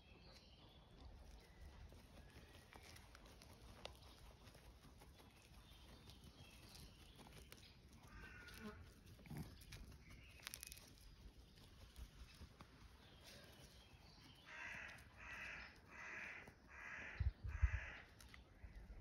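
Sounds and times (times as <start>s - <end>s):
faint animal sound: 0.0s - 19.0s.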